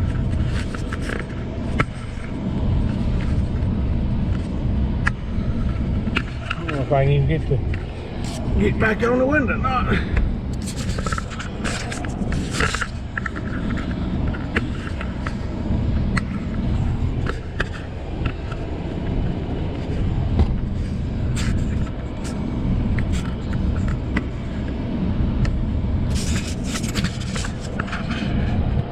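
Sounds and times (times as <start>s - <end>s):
vehicle engine rumble: 0.0s - 28.9s.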